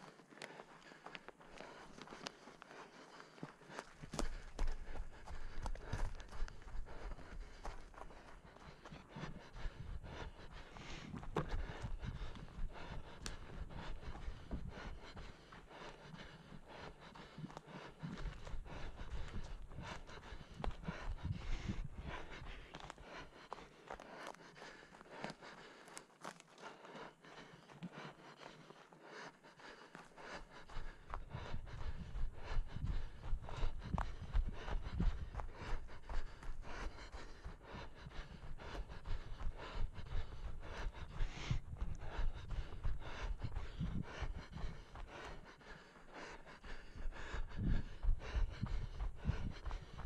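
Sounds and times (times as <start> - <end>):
footsteps running on forest floor: 0.0 - 50.0.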